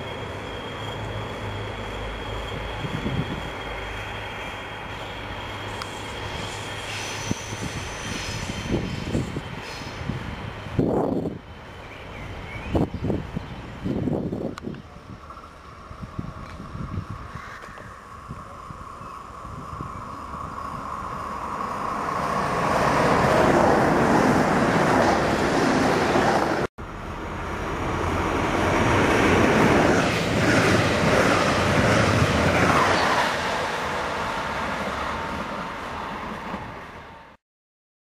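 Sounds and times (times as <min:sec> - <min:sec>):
diesel locomotive passing: 0:00.0 - 0:37.4
diesel train passing: 0:00.0 - 0:37.4.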